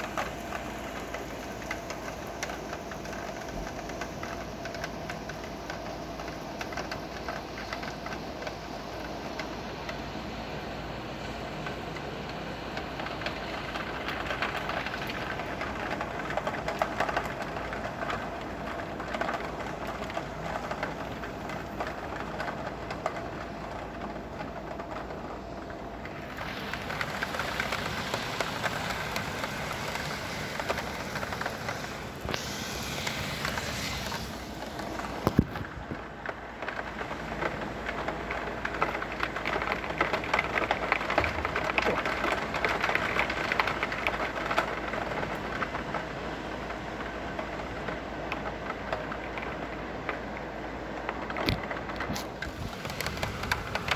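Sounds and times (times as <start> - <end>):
heavy rain: 0.0 - 53.9.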